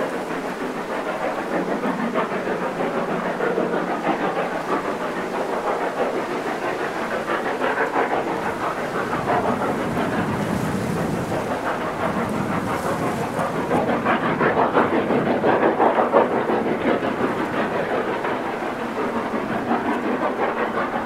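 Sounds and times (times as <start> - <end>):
steam locomotive exhaust beats: 0.0 - 21.0.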